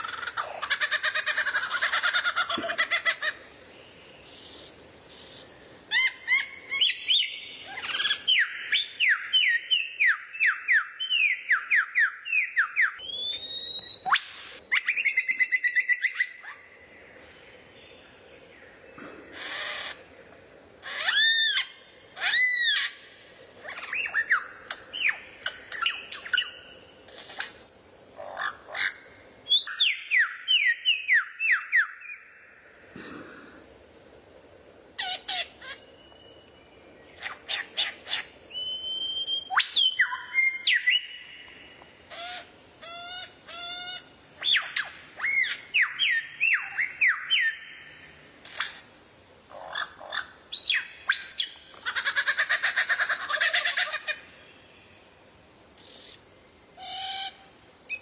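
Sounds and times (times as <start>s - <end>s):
songbird song and calls: 0.0s - 32.9s, 35.0s - 58.0s.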